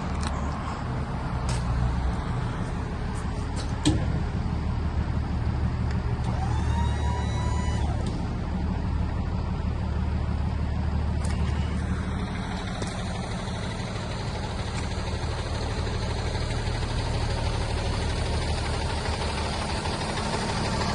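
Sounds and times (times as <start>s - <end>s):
truck engine idling: 0.0s - 20.9s.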